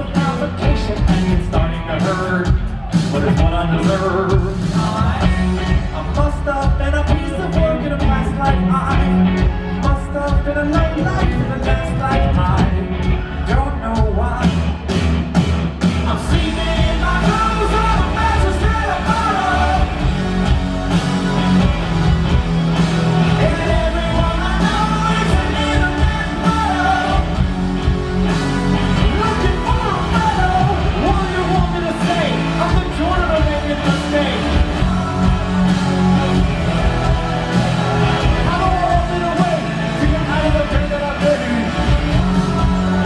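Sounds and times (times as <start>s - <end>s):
lead singer singing: 0.0s - 14.8s, 16.0s - 43.0s
live rock band playing: 0.0s - 43.0s.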